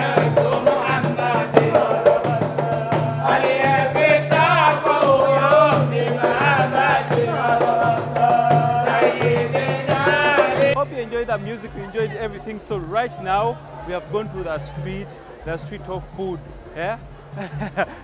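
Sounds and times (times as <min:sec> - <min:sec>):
bass line: 0:00.0 - 0:18.0
percussion beat: 0:00.0 - 0:18.0.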